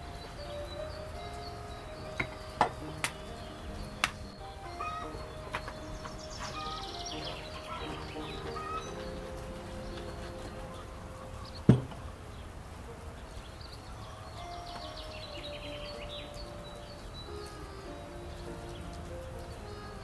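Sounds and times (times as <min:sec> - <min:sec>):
birds chirping: 0:00.0 - 0:20.0
soft background music: 0:00.0 - 0:20.0.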